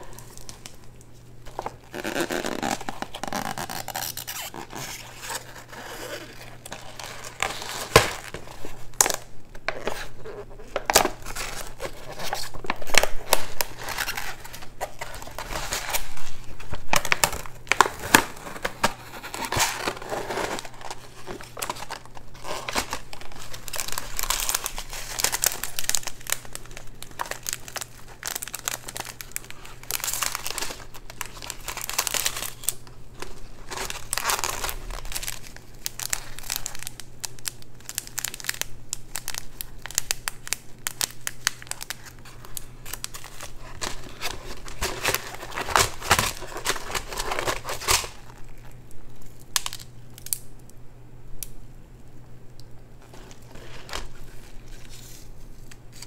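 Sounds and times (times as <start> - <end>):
food packaging crinkling and tearing: 0.0 - 50.6, 52.6 - 56.0.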